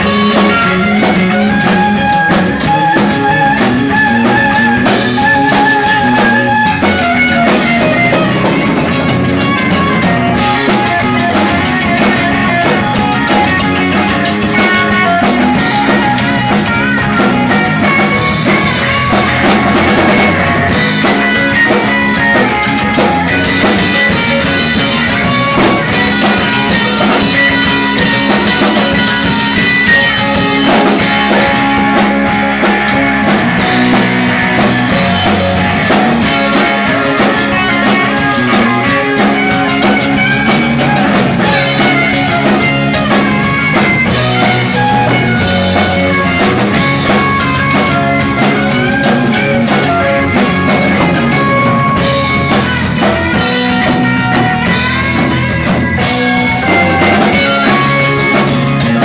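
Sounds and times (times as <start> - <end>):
drum kit: 0.0 - 59.0
electric bass: 0.0 - 59.0
electric guitar: 0.0 - 59.0
keyboard: 0.0 - 59.0.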